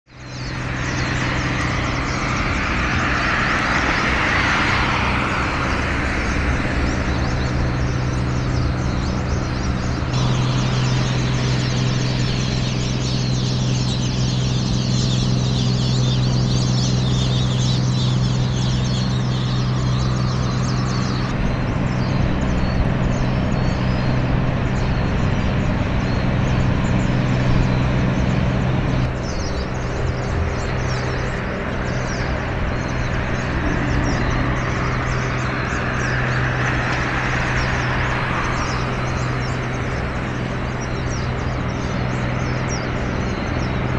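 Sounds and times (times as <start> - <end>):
birds calling: 0.0 - 43.9
low engine drone: 0.0 - 43.9.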